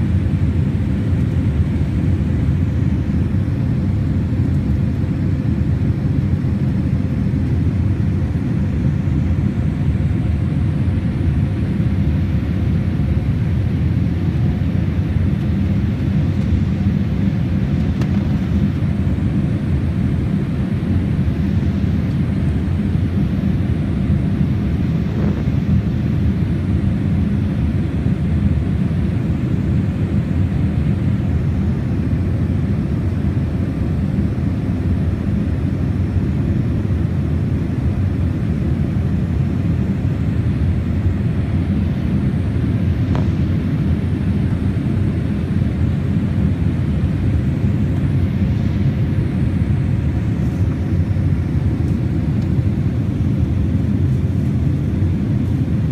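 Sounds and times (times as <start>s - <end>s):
jet engine low rumble: 0.0s - 55.9s.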